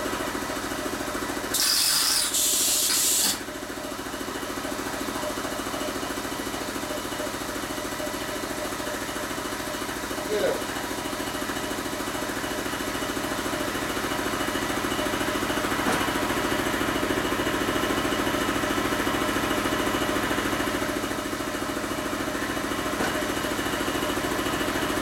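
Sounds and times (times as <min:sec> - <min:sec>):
motorcycle engine idling: 0:00.0 - 0:01.5, 0:03.4 - 0:25.0.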